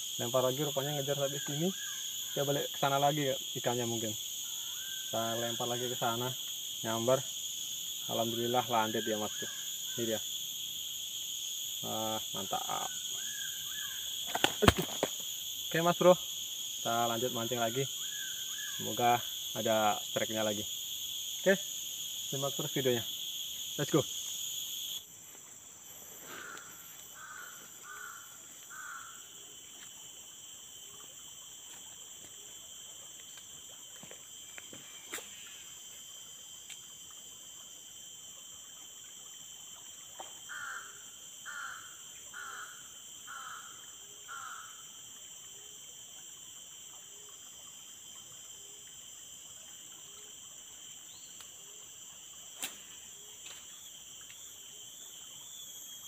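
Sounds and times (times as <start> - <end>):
high drone of insects: 0.0 - 56.0.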